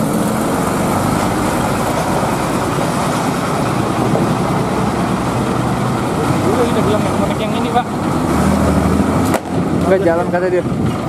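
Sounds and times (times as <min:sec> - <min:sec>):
diesel coach engine running: 0:00.0 - 0:11.0.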